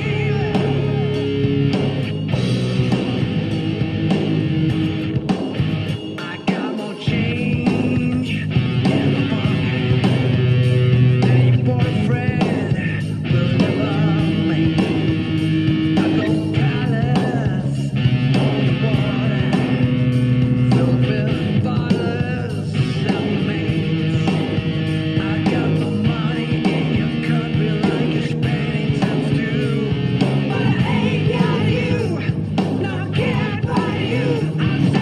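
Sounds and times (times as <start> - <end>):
electric guitar lead lines: 0.0 - 35.0
rock band music: 0.0 - 35.0.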